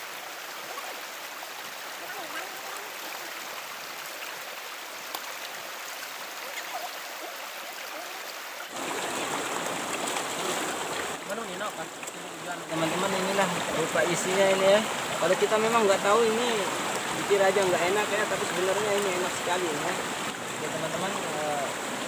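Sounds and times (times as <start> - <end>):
stream water flowing: 0.0 - 22.0.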